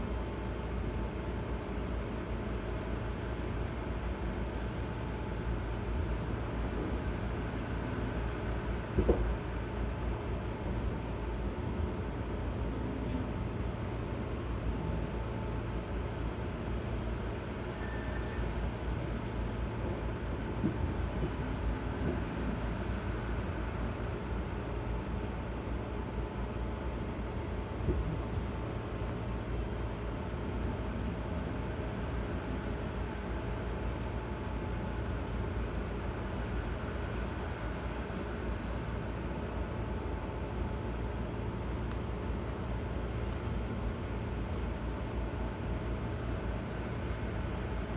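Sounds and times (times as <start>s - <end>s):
train wheels rumbling on rail: 0.1s - 47.9s.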